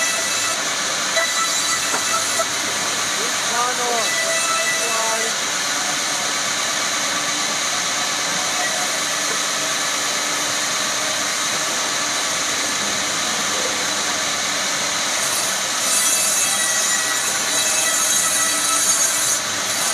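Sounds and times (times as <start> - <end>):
woodworking machine running: 0.0 - 19.9.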